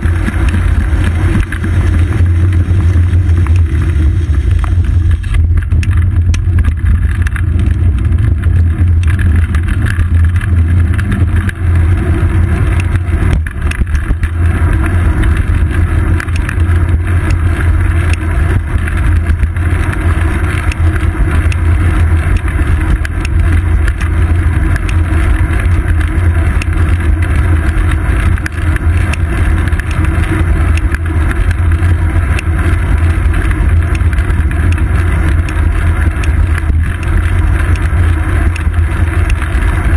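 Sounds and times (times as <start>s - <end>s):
wind and road rumble: 0.0s - 39.9s
small rattling clicks: 4.6s - 39.9s.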